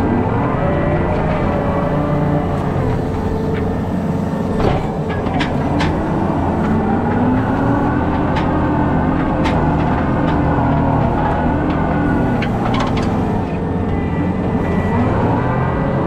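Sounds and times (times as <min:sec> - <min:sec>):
diesel engine working under load: 0:00.0 - 0:16.0.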